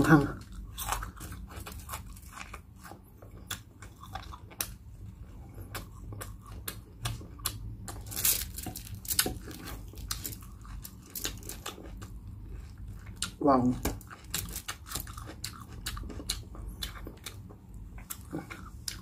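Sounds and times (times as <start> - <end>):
crunchy chewing: 0.3 - 19.0.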